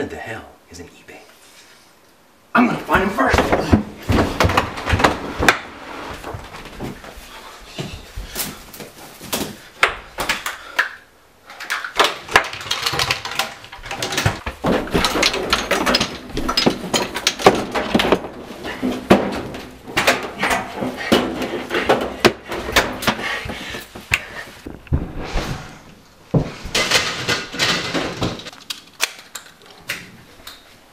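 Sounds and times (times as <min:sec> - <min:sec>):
objects knocking and clattering: 0:03.2 - 0:07.1, 0:07.8 - 0:25.2, 0:26.3 - 0:30.1.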